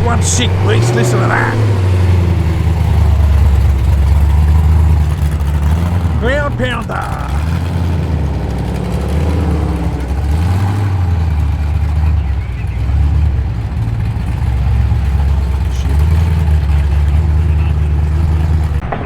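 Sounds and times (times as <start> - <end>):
car engine rumbling past: 0.0 - 19.0.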